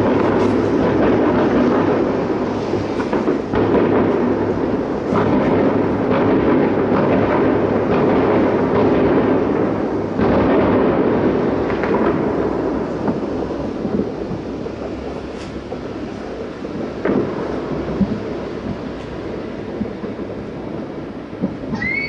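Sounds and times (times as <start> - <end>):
distant fireworks rumble: 0.0 - 22.0.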